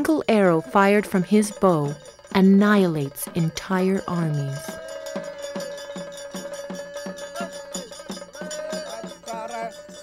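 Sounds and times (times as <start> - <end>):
small cymbals ringing: 0.0 - 10.0
drum beating: 0.6 - 10.0.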